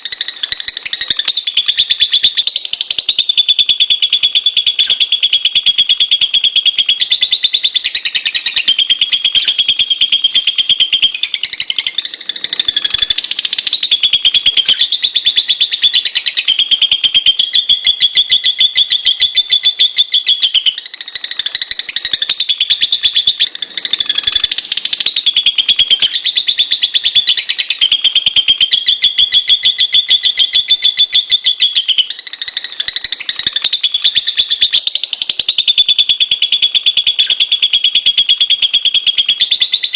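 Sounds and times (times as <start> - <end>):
lovebird shrill chattering trill: 0.0 - 39.9.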